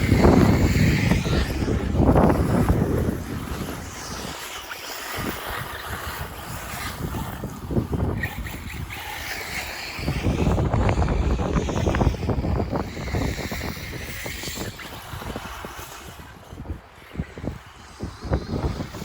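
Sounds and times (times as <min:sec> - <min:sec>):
radio-controlled car motors whining: 0:00.0 - 0:19.0
wind buffeting microphone: 0:00.0 - 0:19.0.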